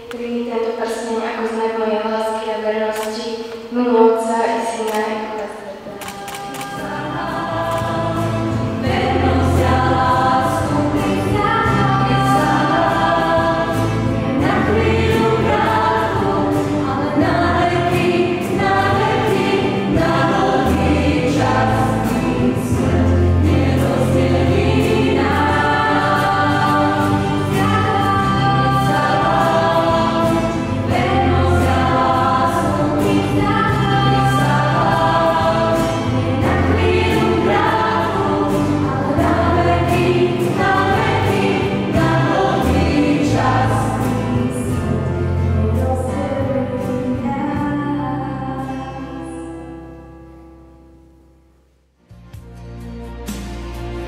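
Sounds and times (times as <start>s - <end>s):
worship band playing: 4.4s - 49.8s
voices singing together: 5.7s - 49.3s.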